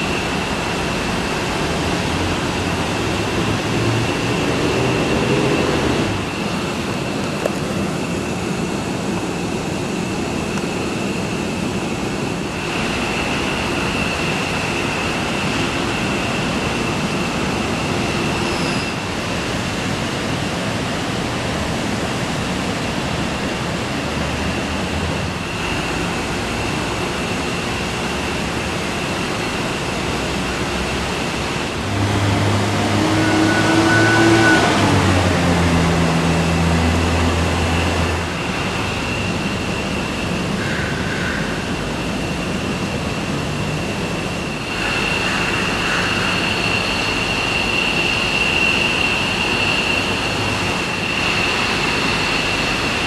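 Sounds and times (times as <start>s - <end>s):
distant jet engines droning: 0.0s - 53.0s.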